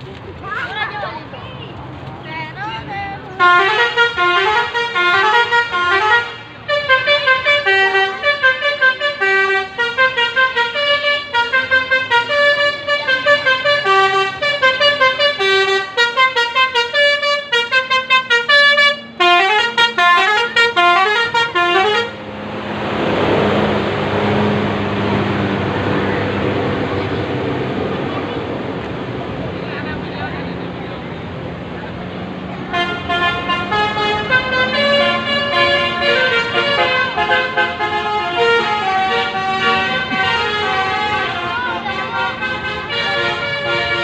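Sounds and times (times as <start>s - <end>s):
multi-tone bus horn melody: 3.3s - 27.8s, 32.6s - 44.0s.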